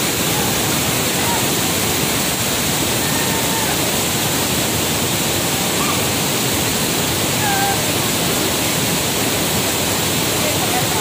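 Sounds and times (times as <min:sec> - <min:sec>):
white water rushing over boulders: 0:00.0 - 0:11.0.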